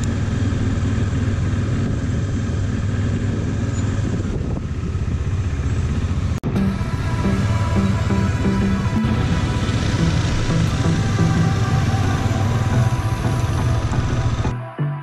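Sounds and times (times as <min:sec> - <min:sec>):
motorcycle engine running: 0:00.0 - 0:14.5.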